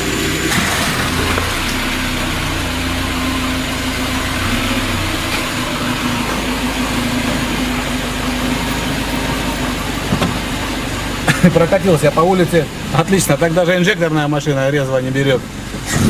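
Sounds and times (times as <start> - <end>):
car engine running steadily: 0.0 - 16.0.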